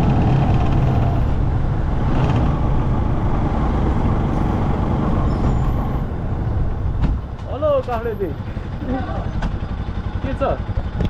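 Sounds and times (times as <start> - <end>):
road and wind noise: 0.0 - 11.0
vehicle engine running: 0.0 - 11.0.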